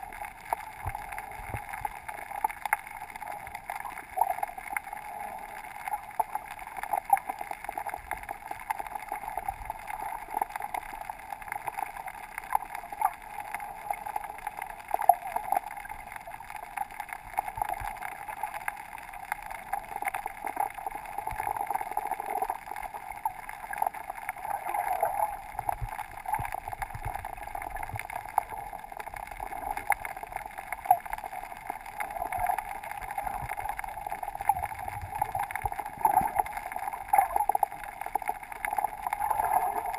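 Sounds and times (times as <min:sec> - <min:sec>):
muffled underwater water hiss: 0:00.0 - 0:39.9.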